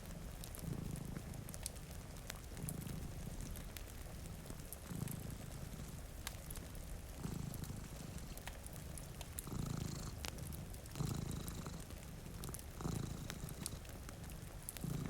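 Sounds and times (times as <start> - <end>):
cat purring: 0.0 - 15.0
rain hiss: 0.0 - 15.0
wood fire crackling: 0.0 - 15.0.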